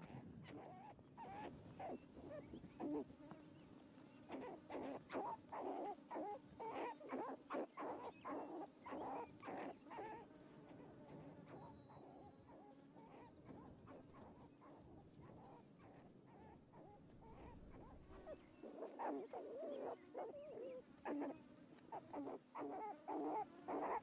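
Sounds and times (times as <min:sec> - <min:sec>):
fox cubs whining and yelping: 0:00.0 - 0:24.0.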